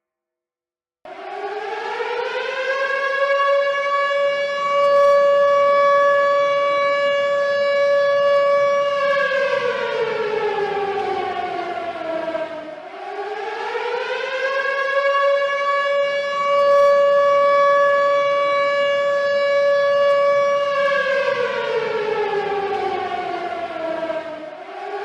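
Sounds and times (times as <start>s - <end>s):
warning siren wailing: 1.1s - 25.0s.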